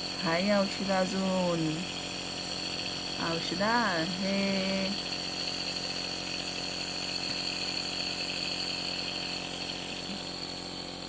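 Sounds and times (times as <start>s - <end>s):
compressor buzzing: 0.0s - 11.0s.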